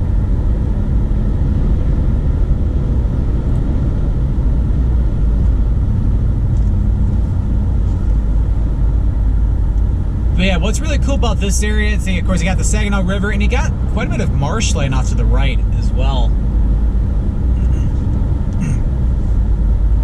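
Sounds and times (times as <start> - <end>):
car engine hum: 0.0 - 20.0
road and tyre noise: 0.0 - 20.0.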